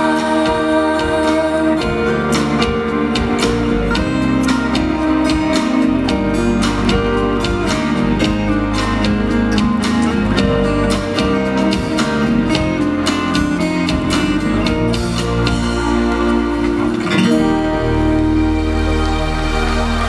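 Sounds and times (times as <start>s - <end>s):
bass and drums: 0.0s - 20.0s
strummed acoustic guitar: 0.0s - 20.0s.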